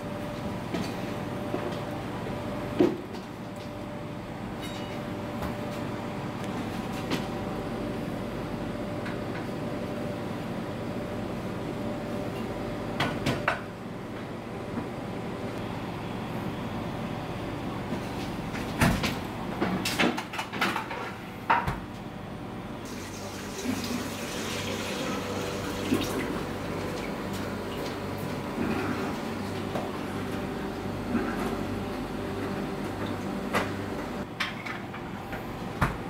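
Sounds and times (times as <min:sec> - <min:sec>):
dining room hum: 0:00.0 - 0:36.0.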